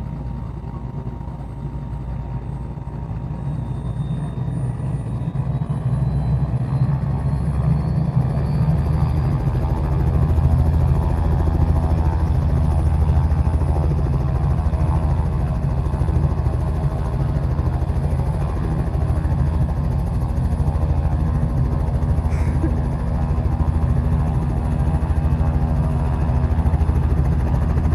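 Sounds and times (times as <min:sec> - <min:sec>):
helicopter rotor beat: 0:00.0 - 0:27.9
low engine drone: 0:00.0 - 0:27.9.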